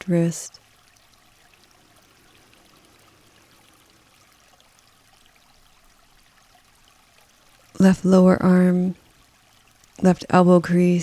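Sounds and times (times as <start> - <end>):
faint running water: 0.0 - 11.0.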